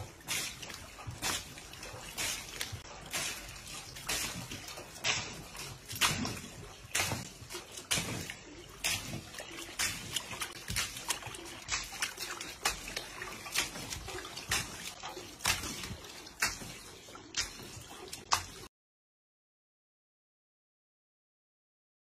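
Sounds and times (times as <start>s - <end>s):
water sloshing and splashing in tank: 0.0s - 18.7s.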